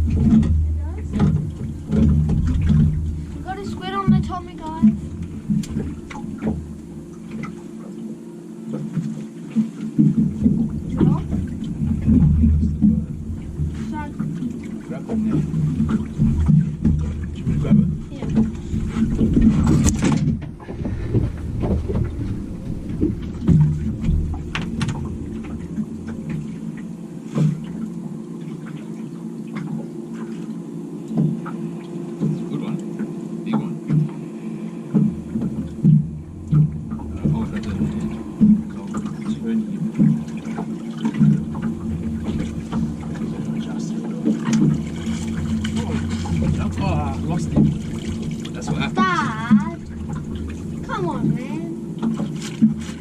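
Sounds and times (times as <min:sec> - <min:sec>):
steady low hum: 0:00.0 - 0:53.0
water lapping against boat: 0:00.0 - 0:53.0.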